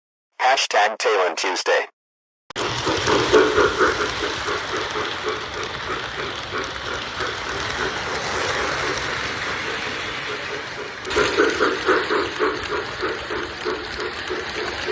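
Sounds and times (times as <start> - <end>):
model train rolling on track: 2.6 - 14.9.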